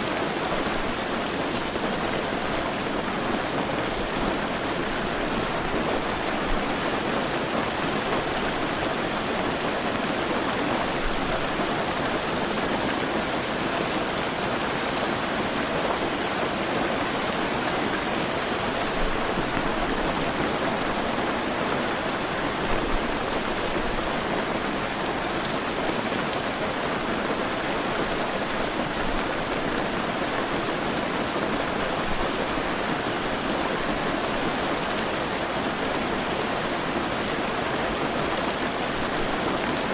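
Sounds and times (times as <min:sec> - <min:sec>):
heavy rain falling: 0:00.0 - 0:39.9
louder raindrops: 0:00.0 - 0:39.9.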